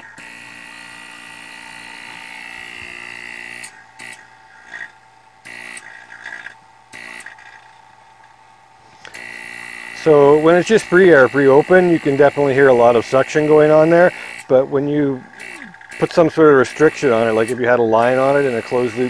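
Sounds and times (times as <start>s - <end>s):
vacuum pump humming and whining: 0.0s - 19.0s.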